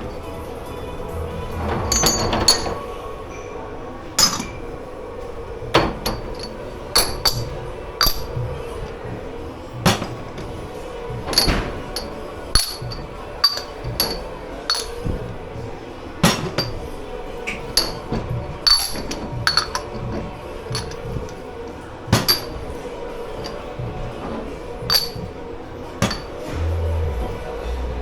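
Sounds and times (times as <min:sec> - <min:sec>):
crockery and glassware clinking: 0:00.0 - 0:26.6.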